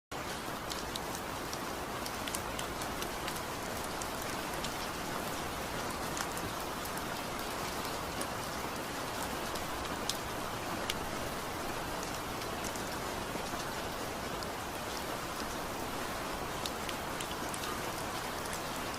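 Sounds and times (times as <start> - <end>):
heavy rain on a tin roof: 0.1 - 18.9.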